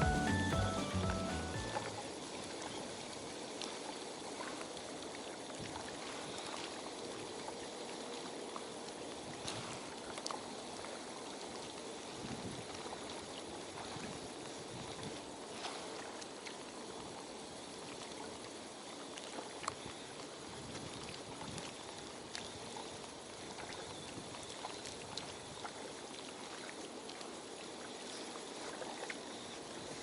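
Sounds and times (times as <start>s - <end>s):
water lapping at shore: 0.0s - 30.0s.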